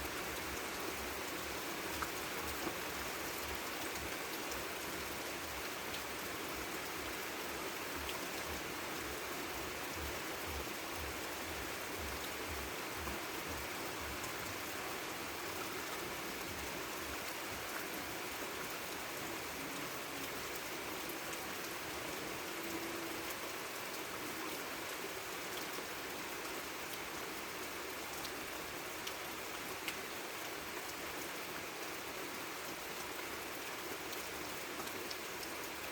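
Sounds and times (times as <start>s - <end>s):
light rain falling: 0.0s - 35.9s.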